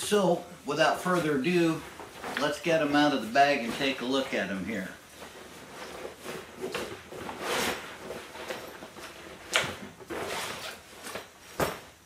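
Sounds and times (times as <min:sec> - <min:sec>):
fabric rustling and scraping: 0:00.9 - 0:12.0.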